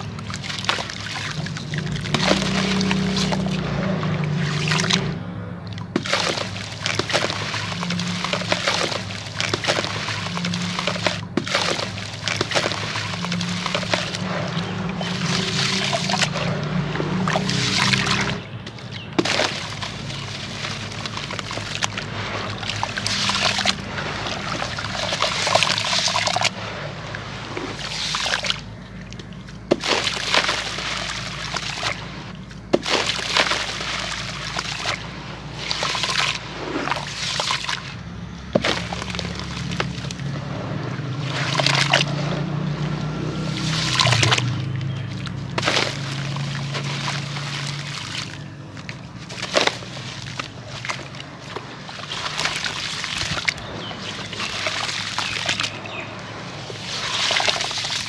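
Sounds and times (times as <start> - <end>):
hands splashing in muddy water: 0.0 - 58.0.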